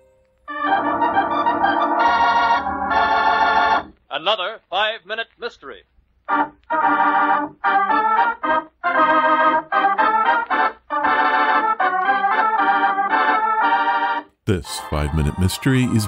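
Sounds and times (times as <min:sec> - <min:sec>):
organ playing held chords: 0:00.0 - 0:04.0, 0:06.2 - 0:16.0.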